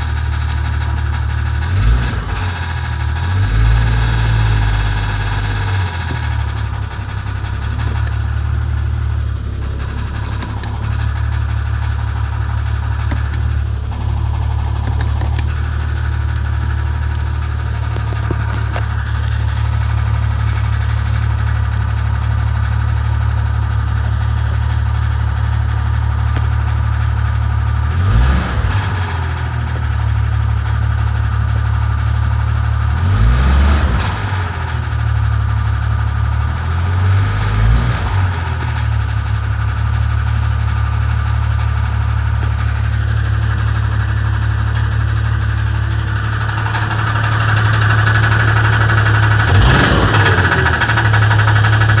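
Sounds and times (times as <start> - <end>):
car engine idling and revving: 0.0 - 52.0.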